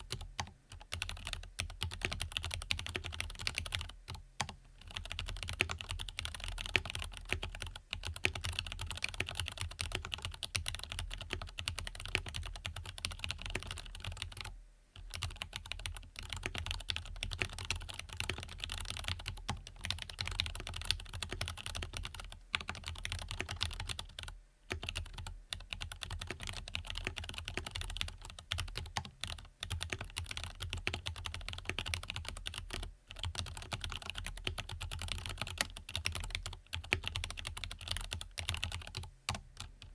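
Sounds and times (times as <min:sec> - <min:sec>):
typing on mechanical keyboard: 0:00.1 - 0:14.5, 0:15.1 - 0:39.9.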